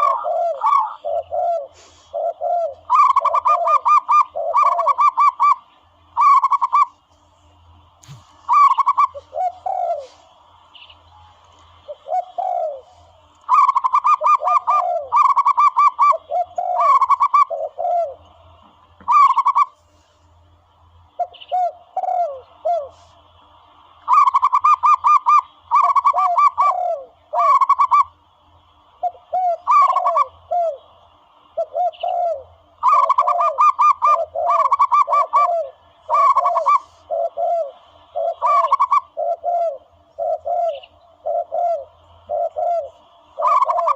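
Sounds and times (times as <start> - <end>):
doves cooing: 0.0 - 7.0, 7.8 - 19.8, 21.1 - 43.9.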